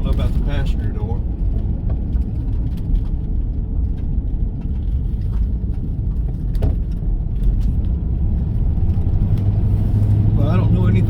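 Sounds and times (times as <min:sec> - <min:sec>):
vehicle cabin road rumble: 0:00.0 - 0:11.0.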